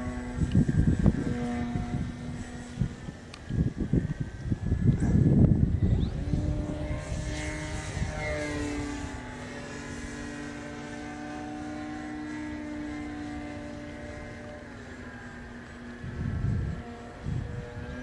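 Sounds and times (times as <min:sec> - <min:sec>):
model airplane motor droning: 0:00.0 - 0:18.0
wind buffeting microphone: 0:00.0 - 0:18.0.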